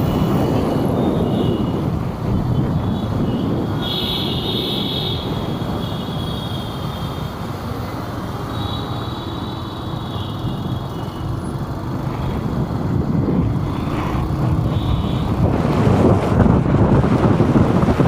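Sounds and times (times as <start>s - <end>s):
passing traffic rumble: 0.0s - 18.0s.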